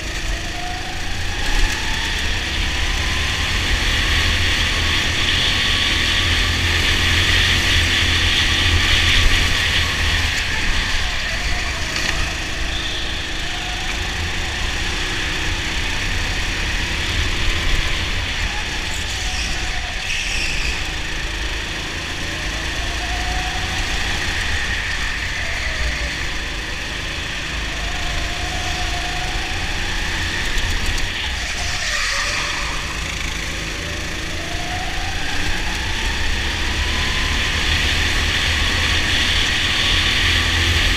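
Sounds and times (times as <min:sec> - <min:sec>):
go-kart engine accelerating: 0:00.0 - 0:40.9.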